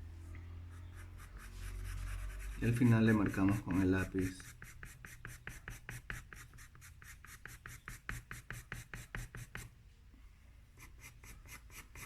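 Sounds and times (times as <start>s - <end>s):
pencil scratching on paper: 0.7s - 9.7s, 10.8s - 12.0s.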